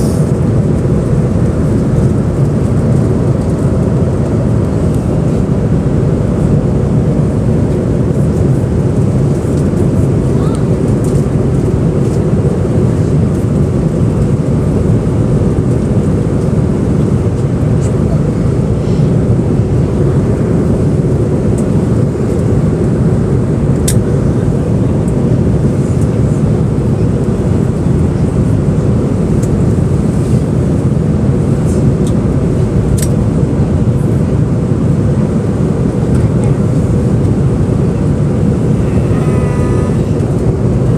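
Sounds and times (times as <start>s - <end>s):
jet engines and airflow: 0.0s - 40.9s.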